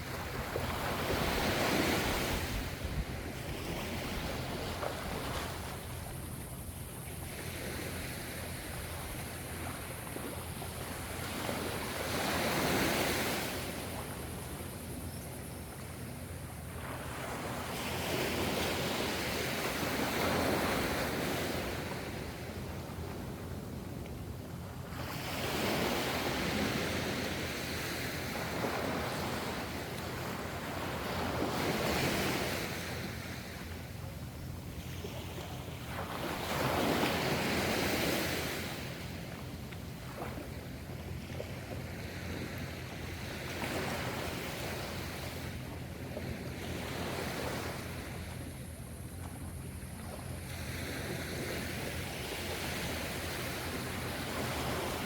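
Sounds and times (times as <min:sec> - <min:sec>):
ocean waves breaking on shore: 0:00.0 - 0:23.8, 0:24.5 - 0:55.0.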